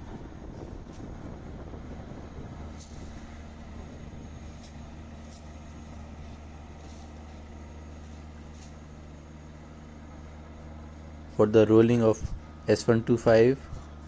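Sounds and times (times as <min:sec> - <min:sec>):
road roller diesel engine: 0:00.0 - 0:14.0.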